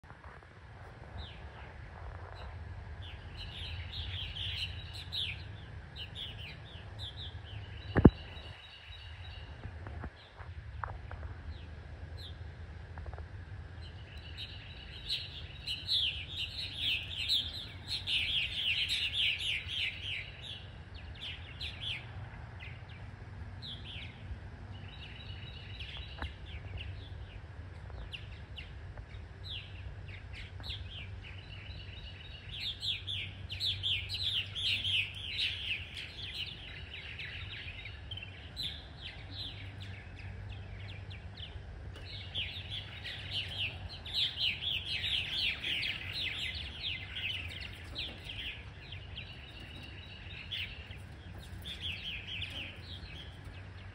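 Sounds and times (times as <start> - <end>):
steady low hum: 0.0 - 53.9
birds chirping: 0.9 - 53.9.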